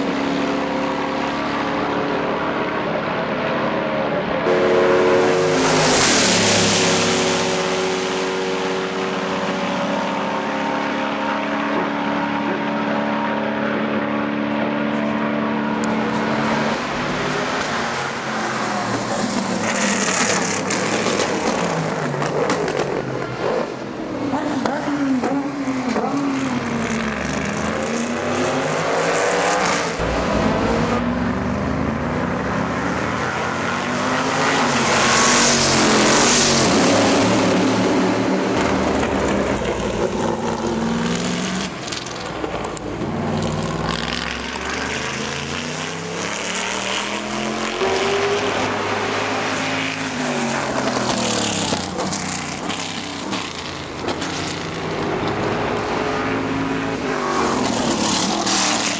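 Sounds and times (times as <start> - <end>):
race car engines passing: 0.0 - 58.9.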